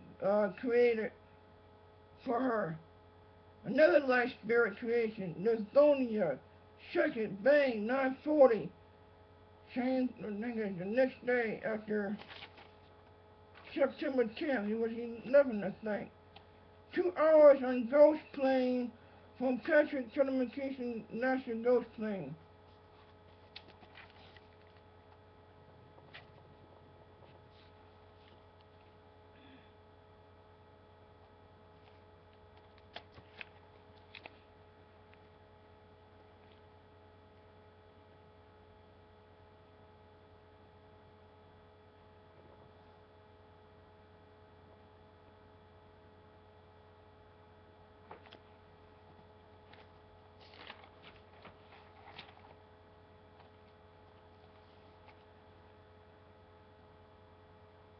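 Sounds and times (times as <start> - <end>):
low electrical hum: 0.0 - 57.9.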